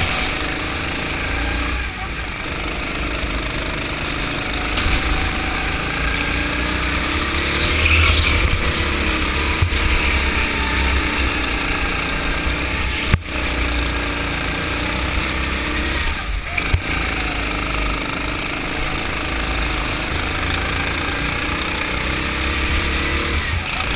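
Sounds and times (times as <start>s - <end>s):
go-kart engine running: 0.0s - 23.9s.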